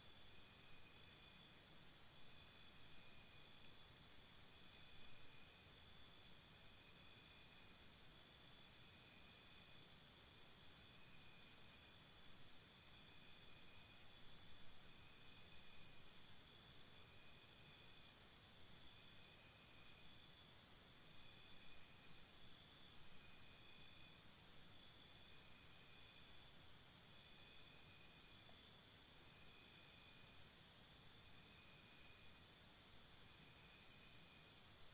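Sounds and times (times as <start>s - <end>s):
crickets chirping: 0.0s - 34.9s
faint steady hiss: 0.0s - 34.9s.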